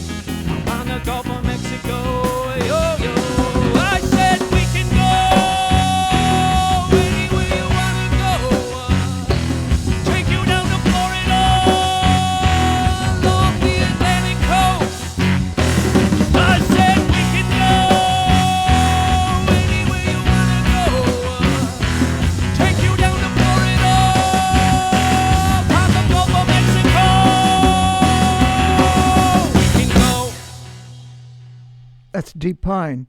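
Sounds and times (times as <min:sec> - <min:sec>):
bass and rhythm accompaniment: 0:00.0 - 0:32.9.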